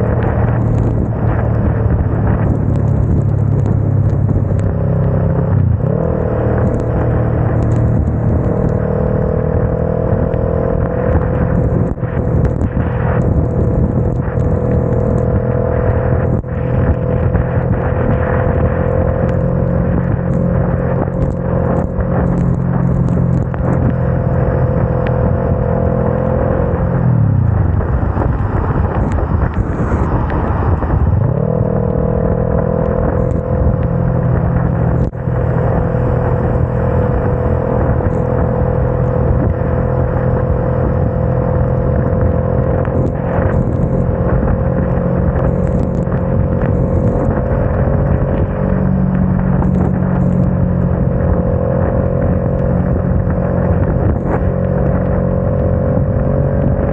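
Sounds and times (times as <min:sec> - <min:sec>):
motorcycle engine running: 0:00.0 - 0:56.9
wet road noise: 0:00.0 - 0:56.9
wind rushing: 0:00.0 - 0:56.9.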